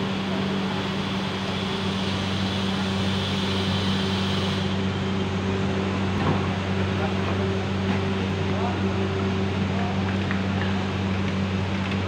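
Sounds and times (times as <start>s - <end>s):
train electrical hum: 0.0s - 12.0s.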